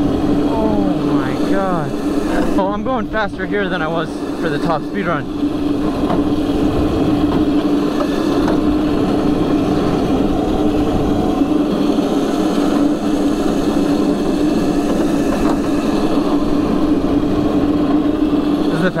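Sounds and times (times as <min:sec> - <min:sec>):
low rushing noise: 0:00.0 - 0:18.7
electric motor whine: 0:00.0 - 0:19.0.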